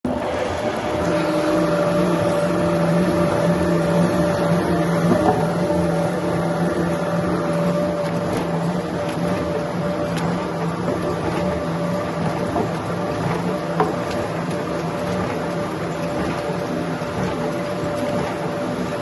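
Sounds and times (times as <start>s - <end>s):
sawmill machinery hum: 0.0s - 19.0s.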